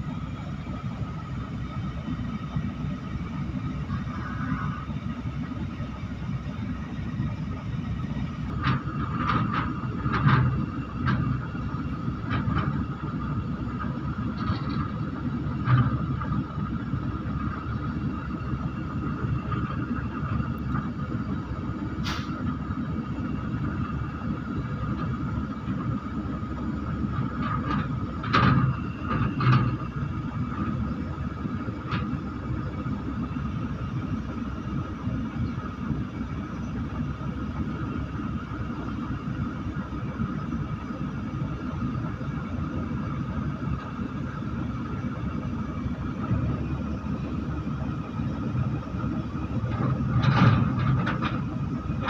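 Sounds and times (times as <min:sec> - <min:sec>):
diesel engine rumbling: 0:00.0 - 0:52.0
engine whine: 0:00.0 - 0:52.0.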